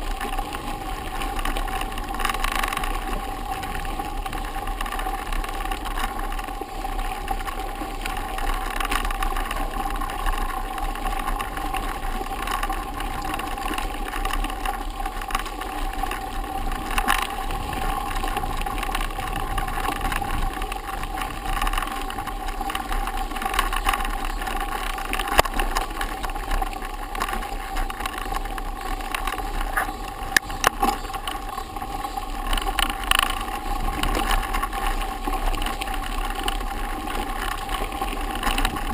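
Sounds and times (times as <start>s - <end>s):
bike clicks and rattles: 0.0s - 38.9s
bike tyres rolling on dirt: 0.0s - 38.9s
constant hum: 0.0s - 38.9s.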